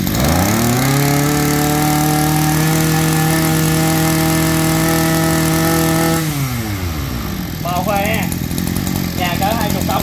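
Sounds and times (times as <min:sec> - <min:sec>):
brush cutter engine running: 0:00.0 - 0:10.0.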